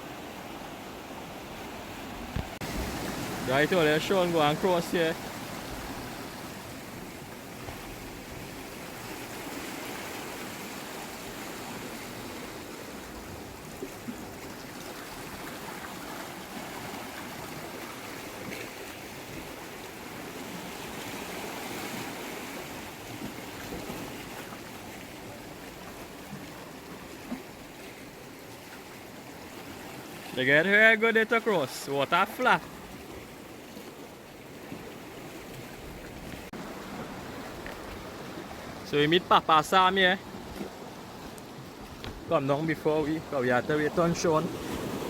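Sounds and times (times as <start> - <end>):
sea water washing over rocks: 0.0 - 45.0.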